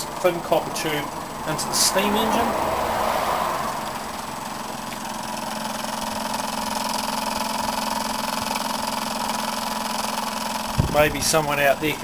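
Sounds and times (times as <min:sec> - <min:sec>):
small steam engine humming: 0:00.0 - 0:02.7, 0:03.7 - 0:10.8.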